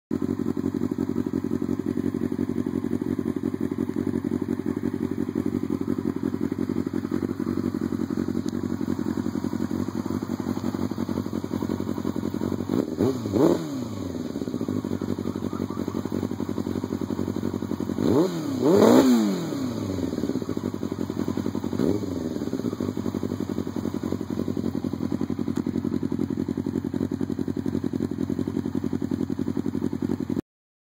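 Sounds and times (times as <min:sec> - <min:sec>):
motorcycle engine idling and revving: 0:00.1 - 0:30.4.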